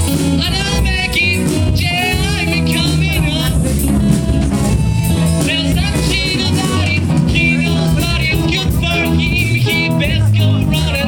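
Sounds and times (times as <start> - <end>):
person singing: 0.0 - 11.0
rock band playing: 0.0 - 11.0.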